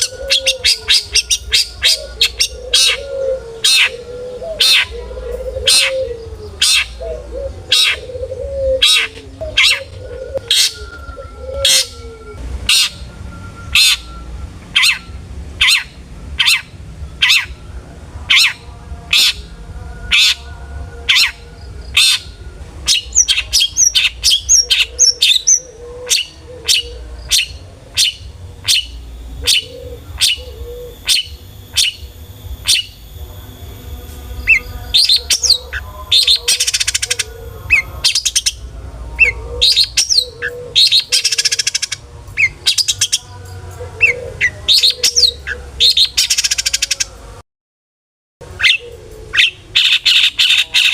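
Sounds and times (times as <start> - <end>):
low cooing: 0.0 - 13.2, 14.8 - 33.6, 34.4 - 47.4, 48.4 - 50.9
shrike singing harsh notes: 0.0 - 47.4.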